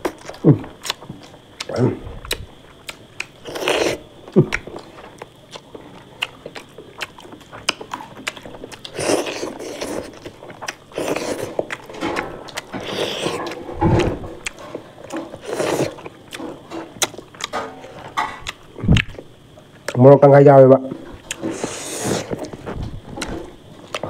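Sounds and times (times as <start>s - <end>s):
person chewing crunchy food: 0.0s - 20.0s, 21.2s - 24.0s.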